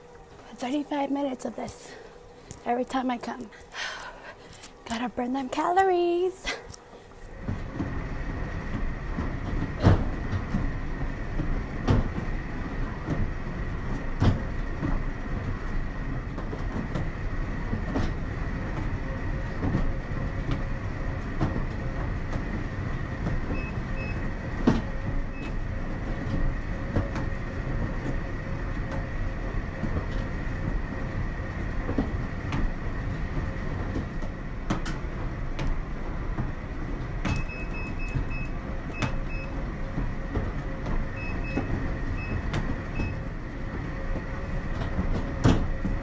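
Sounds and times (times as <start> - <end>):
revolving steps clunking: 0.0 - 46.0
stair climber machine hum: 0.0 - 46.0.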